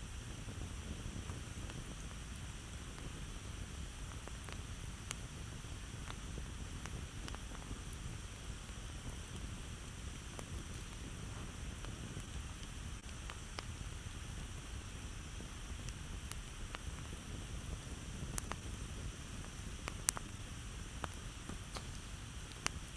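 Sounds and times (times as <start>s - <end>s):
fire rumbling hiss: 0.0s - 22.9s
campfire pops and snaps: 0.5s - 22.9s.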